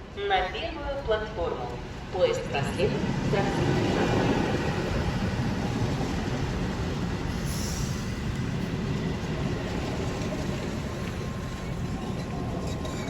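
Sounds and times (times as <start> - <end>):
train wheels rumbling on rails: 0.5 - 13.0.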